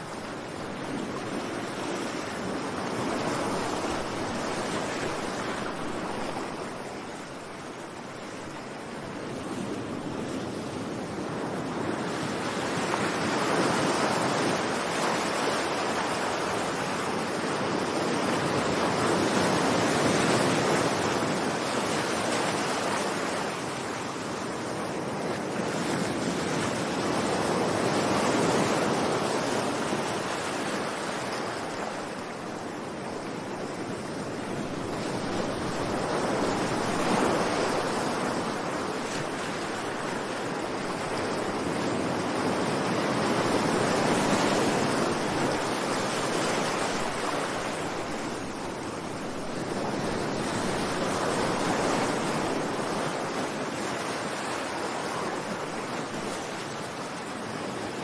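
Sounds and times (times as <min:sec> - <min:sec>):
waves breaking on shore: 0:00.0 - 0:58.0.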